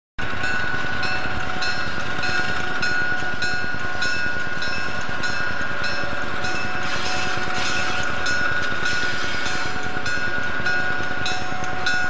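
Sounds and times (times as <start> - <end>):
locomotive bell ringing: 0.2 - 12.0
steady high tone: 0.4 - 12.0.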